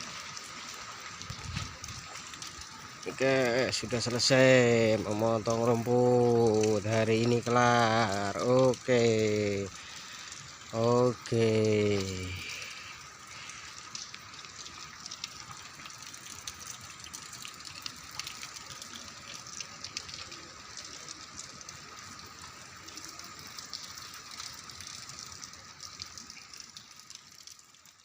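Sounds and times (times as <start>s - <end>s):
rain hissing: 0.0s - 28.0s.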